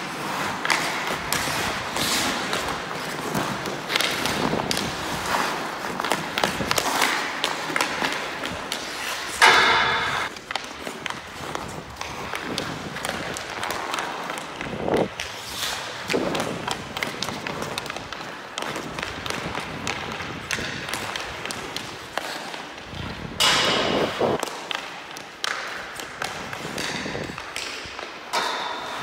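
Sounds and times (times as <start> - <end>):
skate blades scraping ice: 0.0 - 29.0
stick hitting puck: 0.0 - 29.0.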